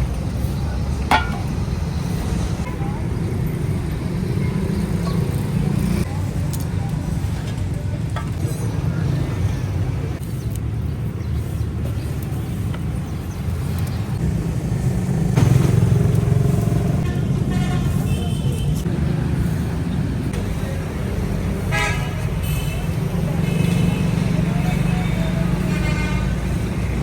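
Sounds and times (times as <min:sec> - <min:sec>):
faint voices: 0:00.0 - 0:13.3, 0:17.5 - 0:27.0
street traffic rumble: 0:00.0 - 0:27.0.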